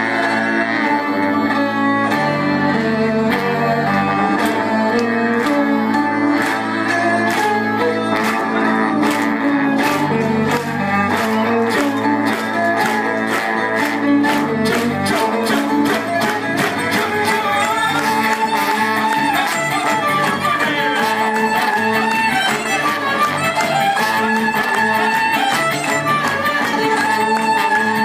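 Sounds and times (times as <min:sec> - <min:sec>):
violin: 0:00.0 - 0:28.0
strummed acoustic guitar: 0:03.3 - 0:28.0.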